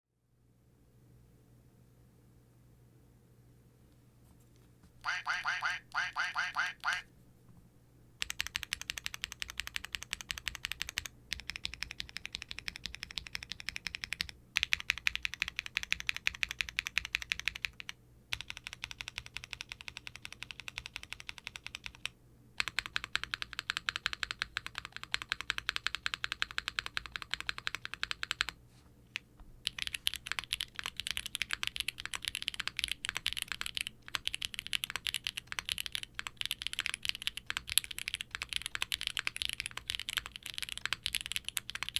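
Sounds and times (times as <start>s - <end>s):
typing on mechanical keyboard: 8.2s - 41.9s.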